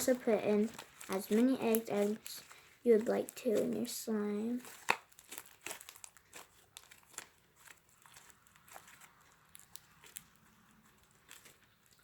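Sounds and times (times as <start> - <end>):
clicks and crackles of slime: 0.0 - 12.0.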